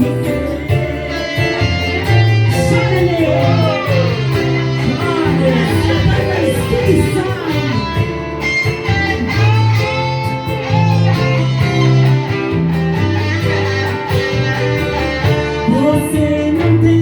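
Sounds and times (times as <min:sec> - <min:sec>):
steady beat: 0:00.0 - 0:16.4
bass line: 0:00.0 - 0:17.0
electric guitar bending notes: 0:00.0 - 0:17.0.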